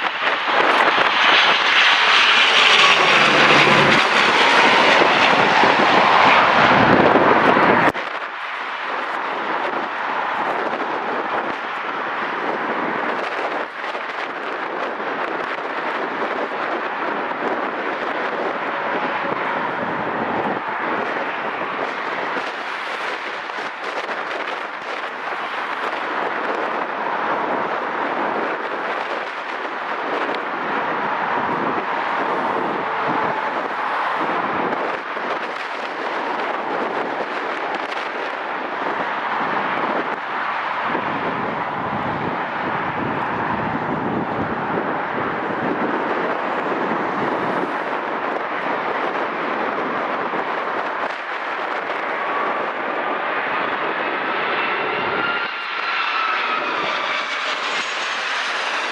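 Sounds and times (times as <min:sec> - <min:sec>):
jet engines rushing with whine: 0:00.0 - 0:58.9.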